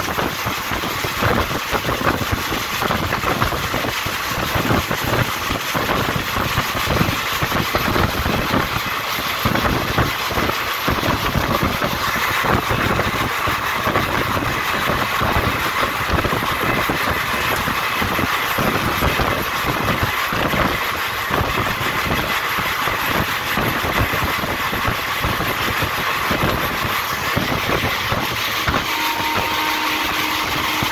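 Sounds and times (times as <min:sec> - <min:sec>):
rush of wind: 0:00.0 - 0:30.9
train wheels rumbling on track: 0:00.0 - 0:30.9.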